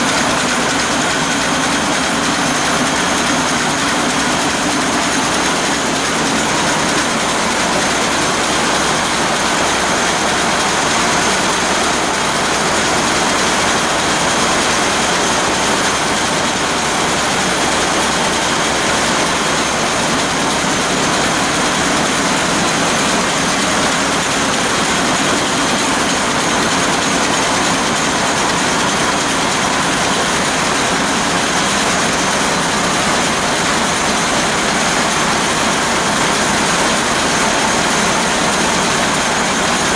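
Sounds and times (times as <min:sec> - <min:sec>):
marine diesel engine running: 0:00.0 - 0:39.9.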